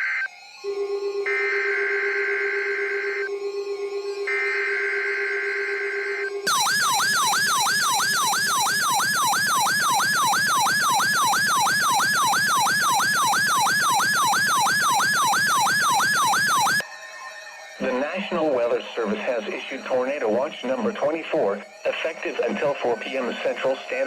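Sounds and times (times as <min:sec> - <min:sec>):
electronic alert siren: 0:00.0 - 0:24.0.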